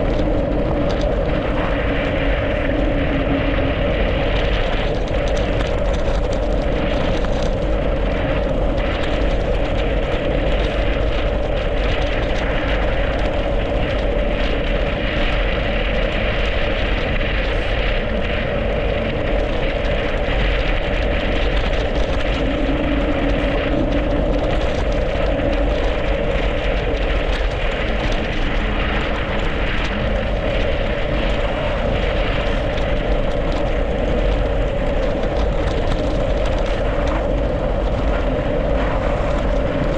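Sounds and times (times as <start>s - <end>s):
bike tyres rolling on icy road: 0.0s - 39.9s
wind rushing on microphone: 0.0s - 39.9s.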